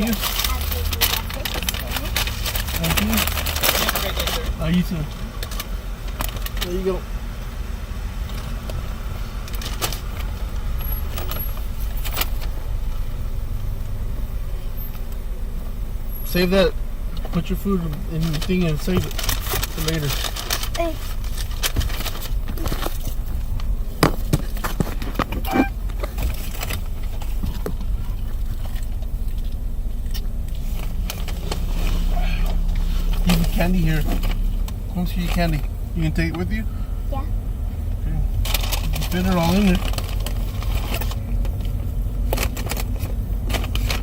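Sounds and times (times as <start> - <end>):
sharp rustles and clicks: 0.0 - 7.1, 8.2 - 36.6, 38.2 - 44.0
car running heard from inside: 0.0 - 44.0.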